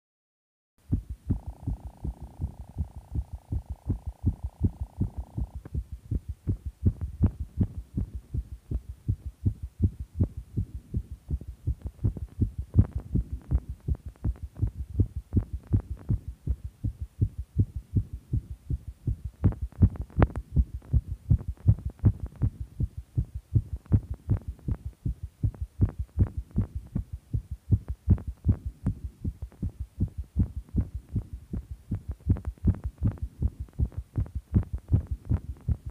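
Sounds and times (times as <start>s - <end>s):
fast heartbeat: 0.8s - 35.9s.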